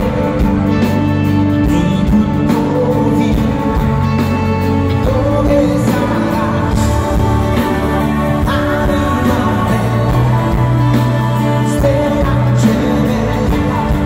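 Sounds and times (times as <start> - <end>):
male lead singer: 0.0 - 14.0
pop-rock band playing: 0.0 - 14.0.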